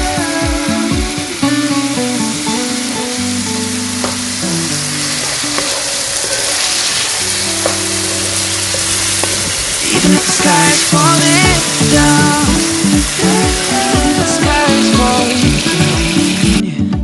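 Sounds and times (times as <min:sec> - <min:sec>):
vegetables sizzling in hot oil: 0:00.0 - 0:16.6
background music: 0:00.0 - 0:17.0.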